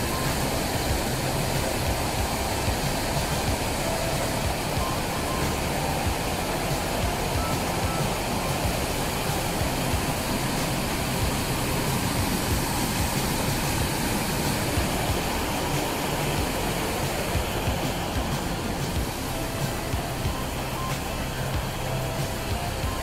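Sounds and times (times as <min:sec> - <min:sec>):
creek water rushing over rapids: 0:00.0 - 0:23.0.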